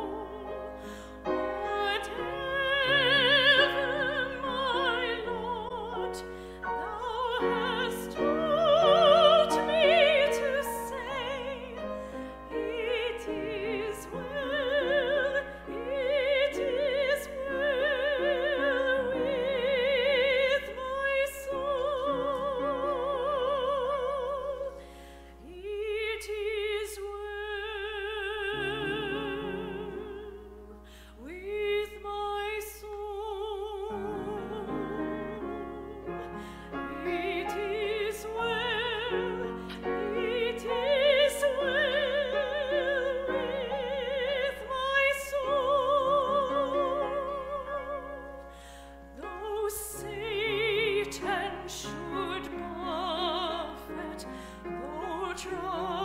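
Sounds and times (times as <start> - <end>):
woman singing classical solo: 0.0 - 56.0.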